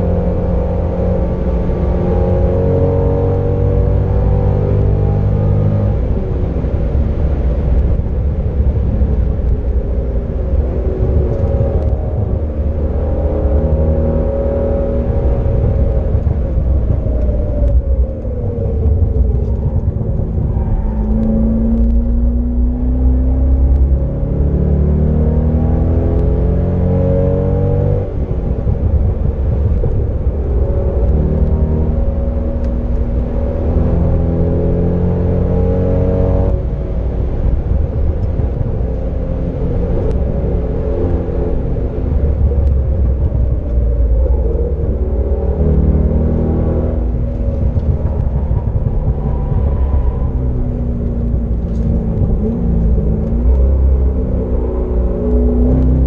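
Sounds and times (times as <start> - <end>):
car engine accelerating: 0.0 - 56.0
tyre and wind noise: 0.0 - 56.0.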